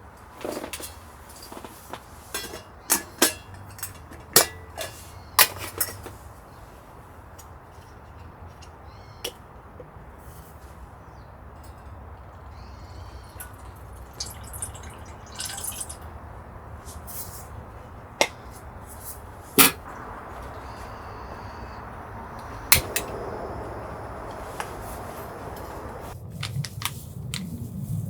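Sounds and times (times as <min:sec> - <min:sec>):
low background noise: 0:00.0 - 0:27.2.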